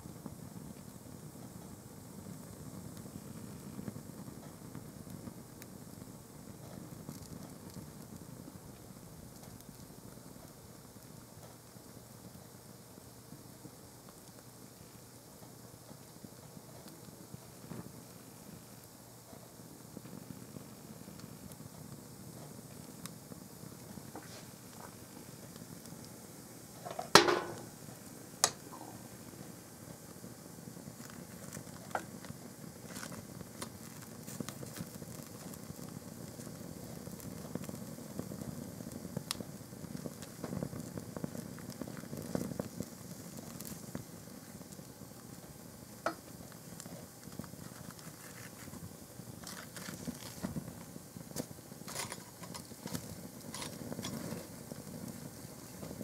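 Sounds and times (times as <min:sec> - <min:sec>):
fire crackling and popping: 0:00.0 - 0:56.0
flames rushing softly: 0:00.0 - 0:56.0.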